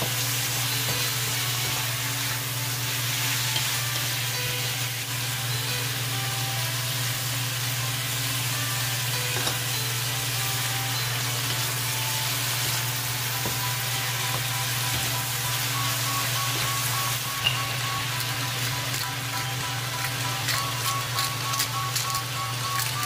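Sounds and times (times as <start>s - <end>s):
chicken and onions sizzling in a wok: 0.0s - 23.0s.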